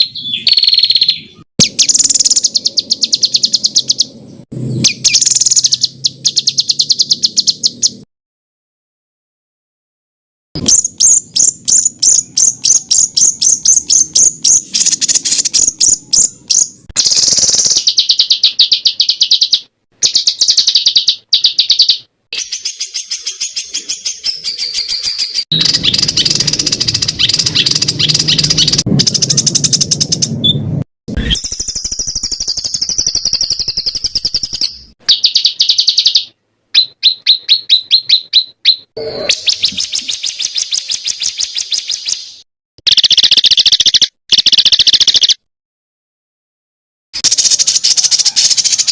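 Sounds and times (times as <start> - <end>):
songbirds chirping and trilling: 0.0 - 8.1, 10.6 - 45.5, 47.2 - 48.9.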